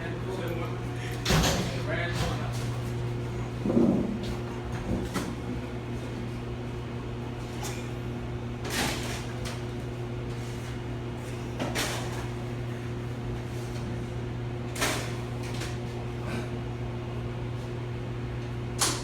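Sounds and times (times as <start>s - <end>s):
electrical hum of equipment: 0.0s - 19.0s.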